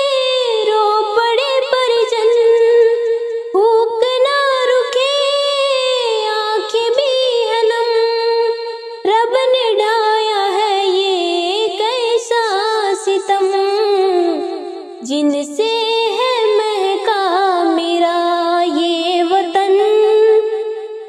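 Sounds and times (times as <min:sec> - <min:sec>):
person singing: 0:00.0 - 0:20.6.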